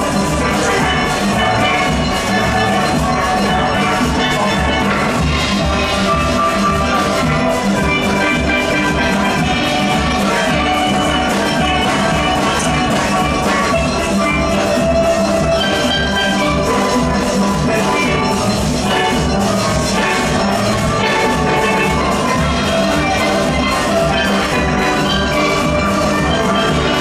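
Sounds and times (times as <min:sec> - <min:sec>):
drum kit beat: 0:00.0 - 0:27.0
steelpan orchestra playing: 0:00.0 - 0:27.0.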